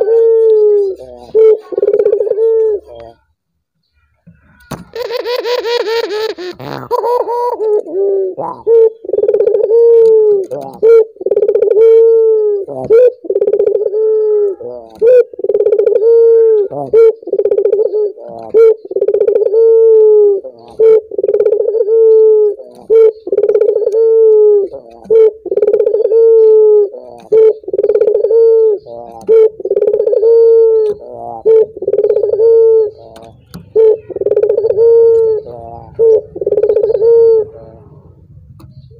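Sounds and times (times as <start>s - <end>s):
dove cooing: 0.0s - 3.2s, 4.8s - 38.9s.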